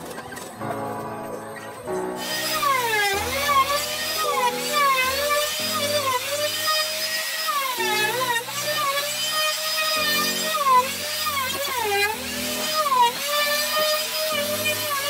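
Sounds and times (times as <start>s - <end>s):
power tool whining into wood: 2.2s - 15.0s.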